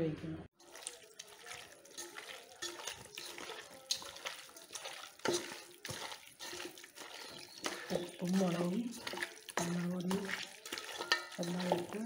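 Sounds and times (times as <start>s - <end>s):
wet squelching of meat: 0.6s - 12.0s.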